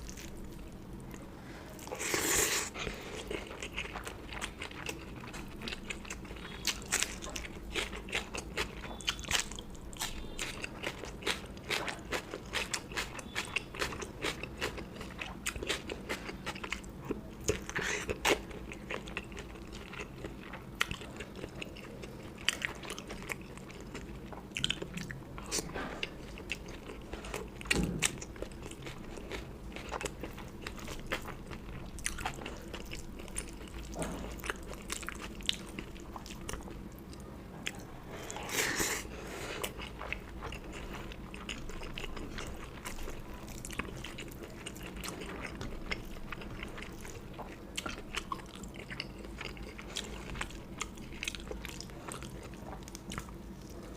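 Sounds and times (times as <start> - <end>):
chewing and biting food: 1.8 - 53.9.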